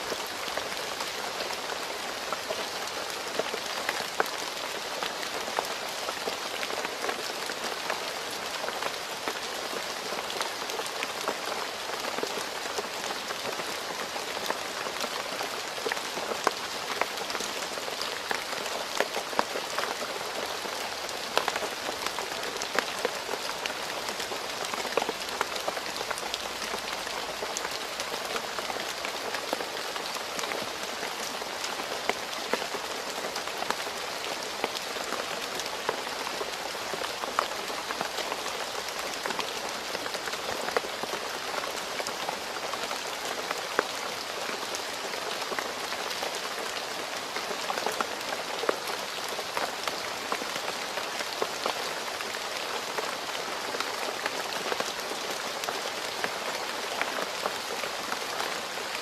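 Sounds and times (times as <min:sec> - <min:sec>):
rain falling on a road: 0:00.0 - 0:59.0.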